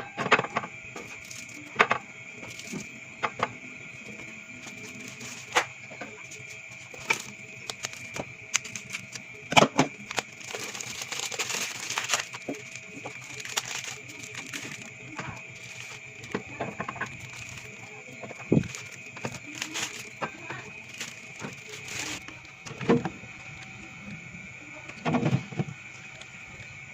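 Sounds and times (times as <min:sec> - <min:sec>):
packaging rustling: 0:00.4 - 0:23.3.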